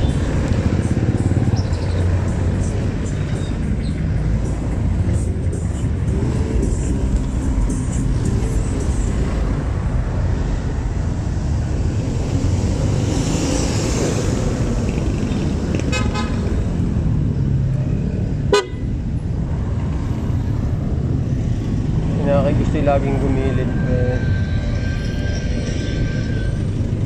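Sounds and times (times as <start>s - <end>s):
motorcycle engine rumbling: 0.0s - 27.0s
street traffic: 0.0s - 27.0s.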